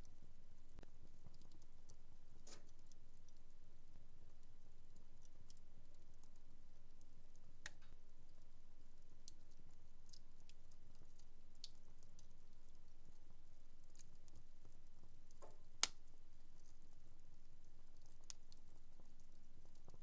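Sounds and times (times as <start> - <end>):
wood fire crackling: 0.2 - 20.0.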